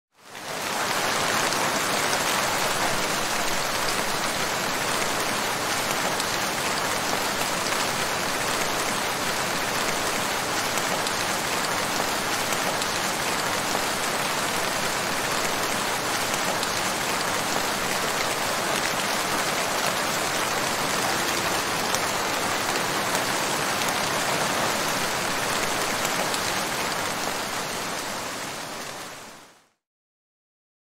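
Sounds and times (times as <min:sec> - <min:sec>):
heavy rain falling: 0:00.2 - 0:29.6.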